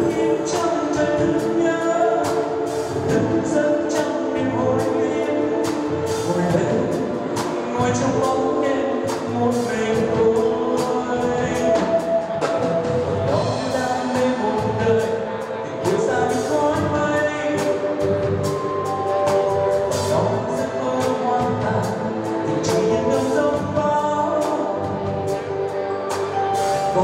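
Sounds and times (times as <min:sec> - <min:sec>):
singing over a band: 0:00.0 - 0:27.0.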